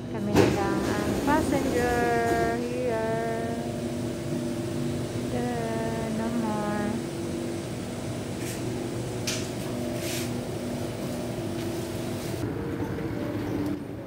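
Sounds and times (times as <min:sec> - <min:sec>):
metro train rumble: 0:00.0 - 0:14.0
motor hum tones: 0:00.0 - 0:14.0
station hall ambience: 0:00.0 - 0:14.0.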